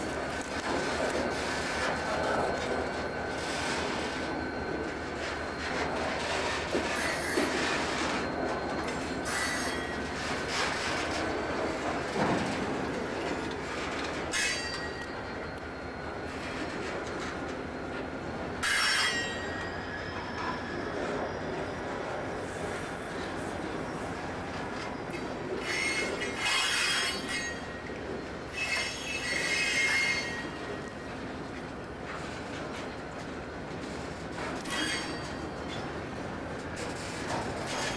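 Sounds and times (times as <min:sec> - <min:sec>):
train cars rumbling on track: 0:00.0 - 0:37.9
train wheels squealing: 0:00.0 - 0:37.9.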